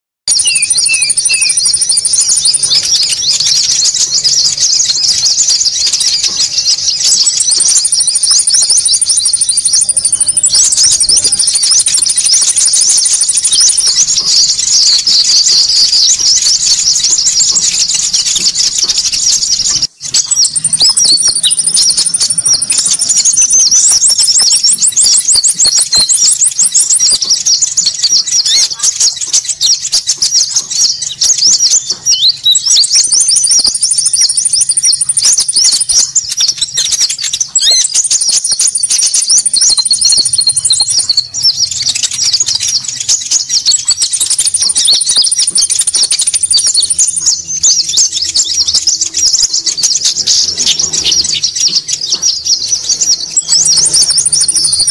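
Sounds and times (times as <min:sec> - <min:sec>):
birds chirping chatter: 0:00.3 - 0:54.9.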